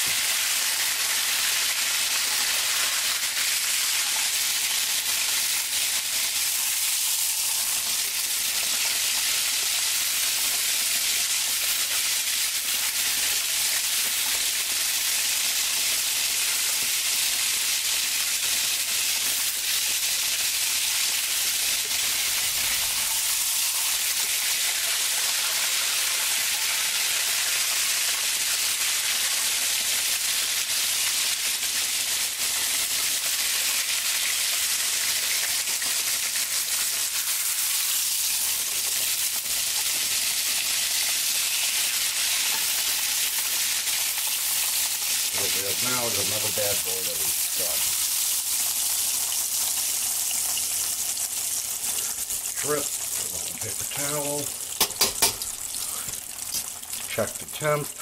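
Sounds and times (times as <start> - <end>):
meat sizzling in hot oil: 0.0 - 58.0.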